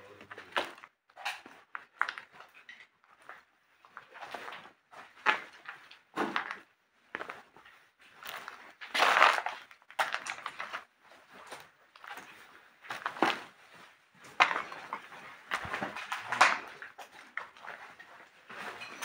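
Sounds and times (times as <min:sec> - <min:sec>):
footsteps crunching on debris: 0:00.0 - 0:19.0.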